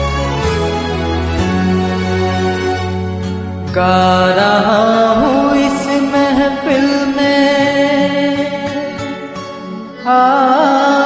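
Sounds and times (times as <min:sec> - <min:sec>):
karaoke backing music: 0:00.0 - 0:11.0.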